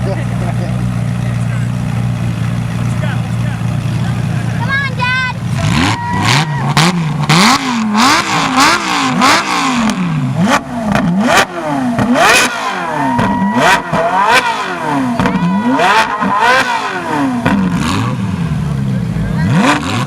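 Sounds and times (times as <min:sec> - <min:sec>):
exhaust cracks: 0:00.0 - 0:20.0
sports car engine revving: 0:00.0 - 0:20.0.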